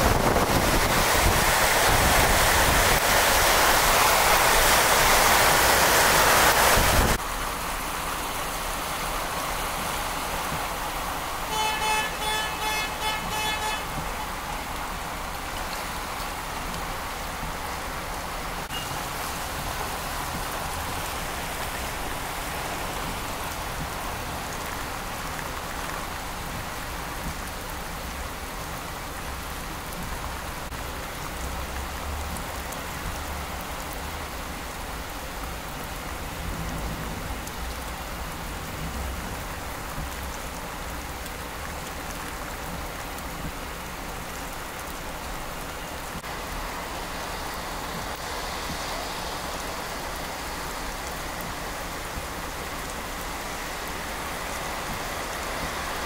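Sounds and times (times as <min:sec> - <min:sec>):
rain falling on water: 0:00.0 - 0:56.0.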